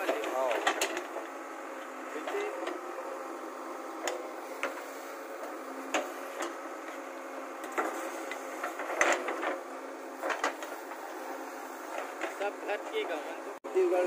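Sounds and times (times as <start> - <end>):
backhoe loader engine running: 0.0 - 13.6.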